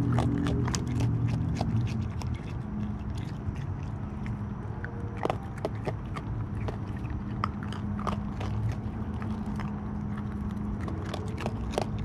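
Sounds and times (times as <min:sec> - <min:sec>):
animal crunching dry kibble: 0:00.0 - 0:12.0
steady low hum: 0:00.0 - 0:12.0.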